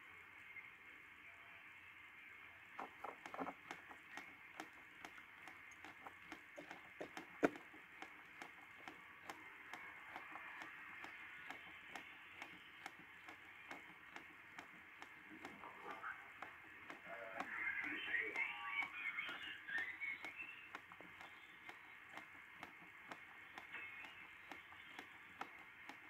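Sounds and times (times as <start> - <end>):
radio band hiss: 0.0 - 26.0
radio signal fragments: 2.8 - 7.8, 8.6 - 25.8
sharp tuning clicks: 2.8 - 26.0.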